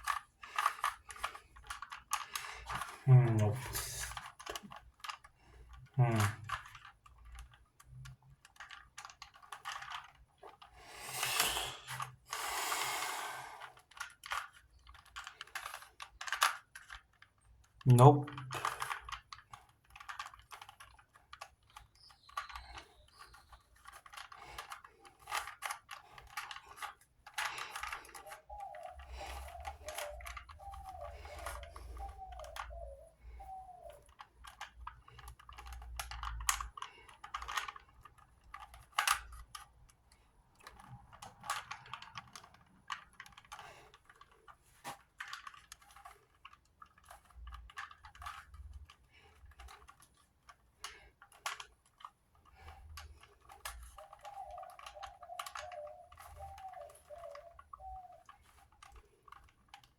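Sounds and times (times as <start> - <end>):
puzzle cube clicking: 0.0 - 17.1, 17.7 - 39.6, 50.8 - 59.9.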